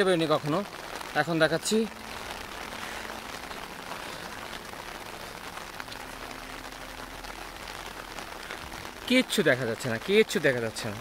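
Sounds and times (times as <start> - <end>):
faint raindrop ticks: 0.0 - 11.0
steady rain hiss: 0.0 - 11.0.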